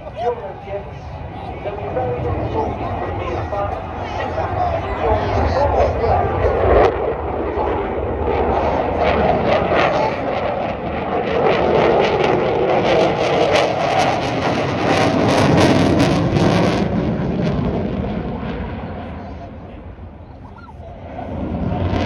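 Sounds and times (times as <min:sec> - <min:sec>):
fighter jet engines roaring: 0:00.0 - 0:22.0.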